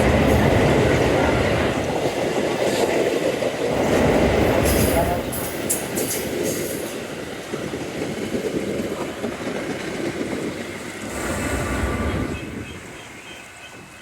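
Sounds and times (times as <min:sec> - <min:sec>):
train rolling by: 0:00.0 - 0:14.0.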